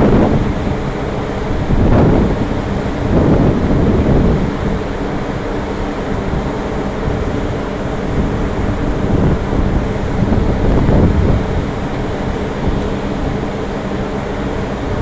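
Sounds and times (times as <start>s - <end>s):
ship engine rumble: 0.0s - 15.0s
wind buffeting microphone: 0.0s - 15.0s.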